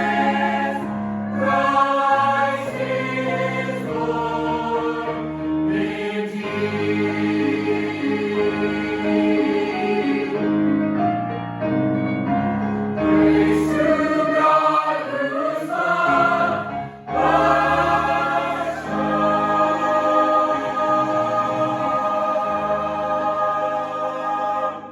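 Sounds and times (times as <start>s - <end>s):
choir singing a hymn: 0.0s - 10.8s, 12.9s - 24.9s.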